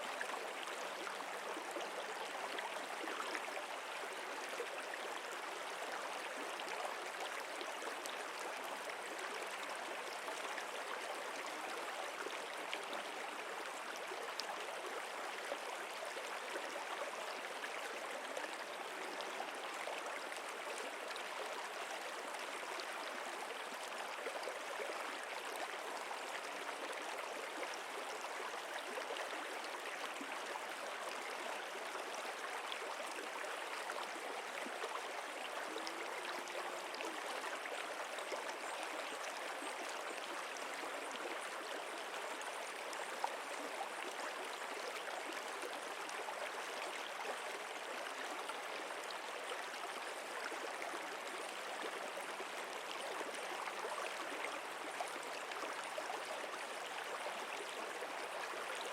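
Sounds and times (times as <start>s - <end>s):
stream flowing: 0.0s - 58.9s.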